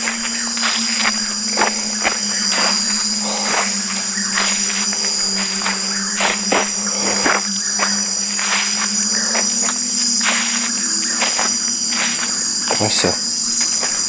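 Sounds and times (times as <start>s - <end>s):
footsteps crunching on dry leaves: 0.0s - 14.0s
night insects chorus: 0.0s - 14.0s
steady low hum: 0.0s - 14.0s.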